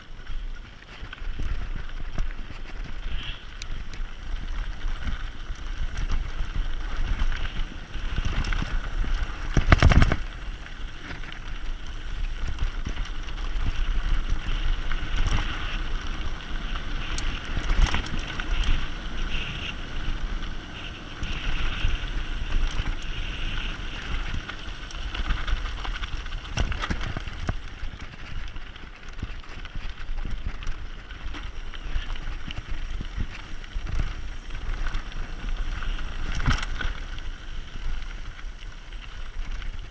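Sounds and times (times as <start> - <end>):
bike rattling over rough ground: 0.0 - 39.9
wind rumbling on microphone: 0.0 - 39.9.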